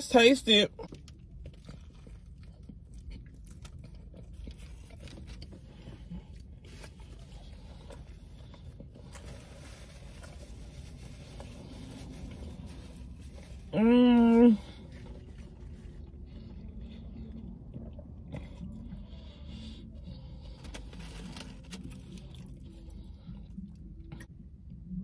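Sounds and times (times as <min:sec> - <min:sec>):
person chewing food: 0:00.7 - 0:13.7, 0:14.3 - 0:24.3.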